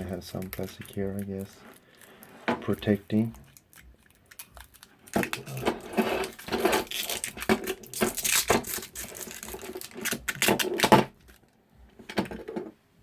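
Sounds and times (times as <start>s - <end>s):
plastic wrapping crinkling and tearing: 0.0s - 11.6s.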